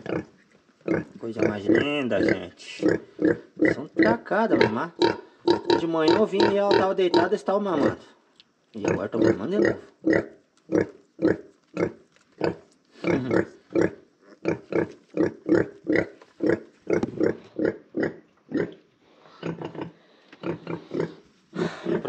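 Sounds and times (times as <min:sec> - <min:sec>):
sow grunting: 0:00.0 - 0:08.0, 0:08.8 - 0:18.8, 0:19.4 - 0:22.0.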